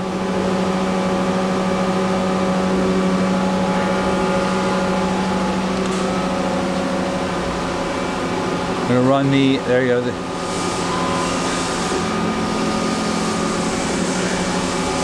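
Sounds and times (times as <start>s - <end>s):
machine hum with tones: 0.0s - 15.0s.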